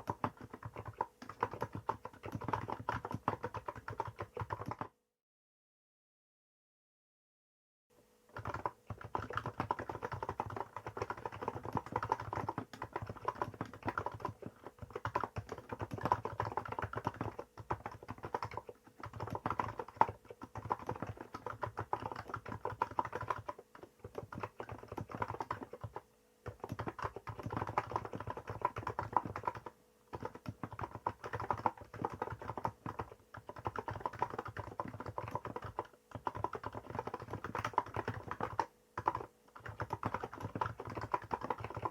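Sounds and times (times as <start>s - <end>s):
fast keyboard typing: 0.0s - 4.9s, 8.3s - 41.9s.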